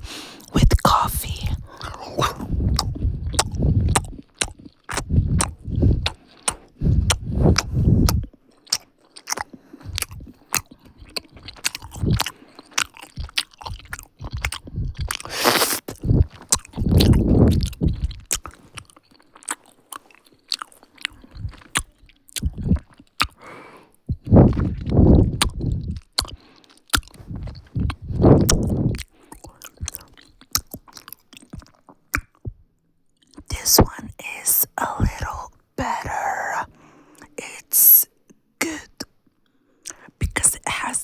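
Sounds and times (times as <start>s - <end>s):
mouth clicks: 0.0s - 20.0s, 24.1s - 32.6s, 33.4s - 39.1s, 39.8s - 41.0s
chocolate being eaten close up: 0.0s - 41.0s.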